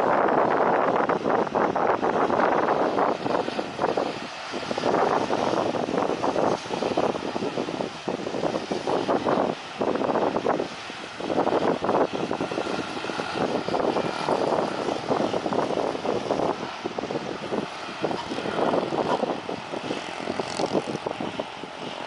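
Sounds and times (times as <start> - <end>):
propeller aircraft engine: 0.0 - 22.0.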